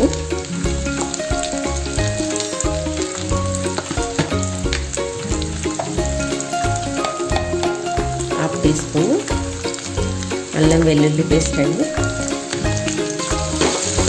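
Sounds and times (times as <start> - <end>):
background music with bass line: 0.0 - 14.0
vegetables sizzling in hot oil: 0.0 - 14.0.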